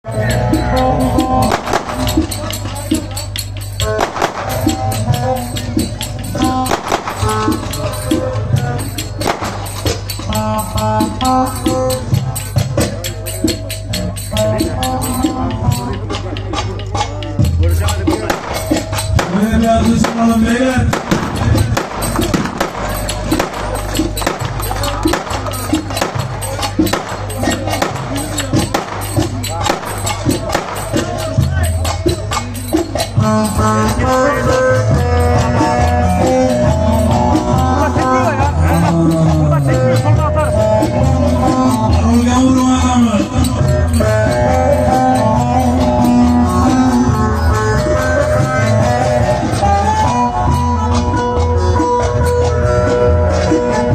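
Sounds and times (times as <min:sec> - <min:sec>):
folk melody instrument: 0:00.0 - 0:53.9
finger cymbals jingling: 0:00.1 - 0:16.0, 0:17.7 - 0:48.7.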